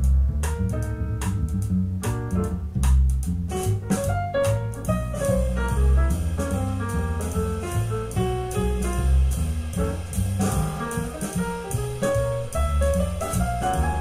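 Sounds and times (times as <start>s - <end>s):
jazzy instrumental music: 0.0s - 14.0s.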